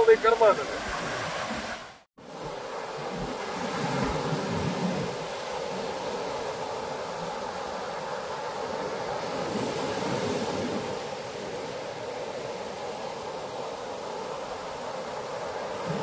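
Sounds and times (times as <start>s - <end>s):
sea surf on sandy beach: 0.0s - 16.0s.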